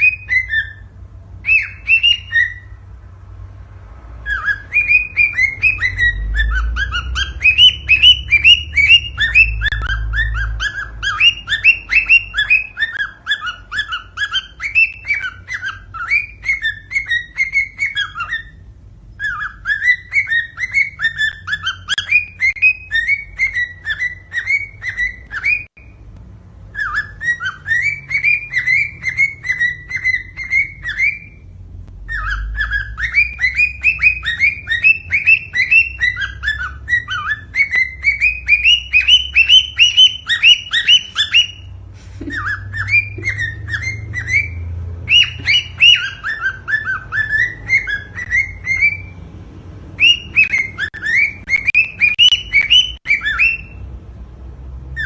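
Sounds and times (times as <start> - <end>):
cockatiel whistling: 0.0 - 2.8, 4.2 - 26.0, 26.7 - 49.2, 49.9 - 53.9.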